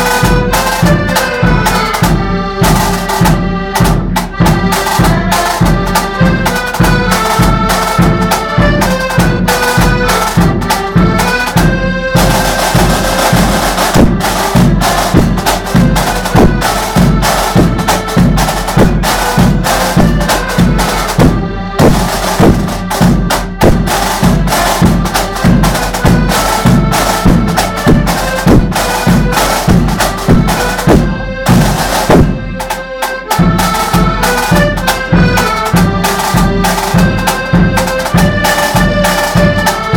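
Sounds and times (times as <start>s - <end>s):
accordions playing melody: 0.0s - 39.9s
snare and bass drums: 0.0s - 39.9s.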